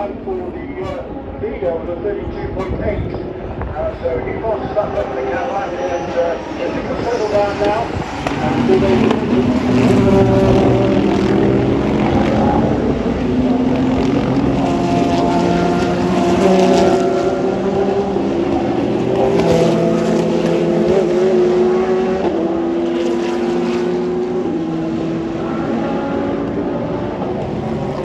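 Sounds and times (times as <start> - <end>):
race car engines accelerating: 0.0 - 28.0.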